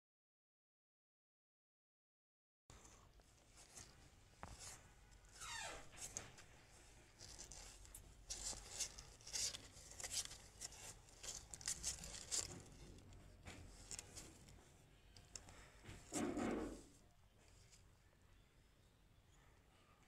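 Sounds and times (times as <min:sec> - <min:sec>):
kittens rustling and scratching: 0:02.7 - 0:18.8.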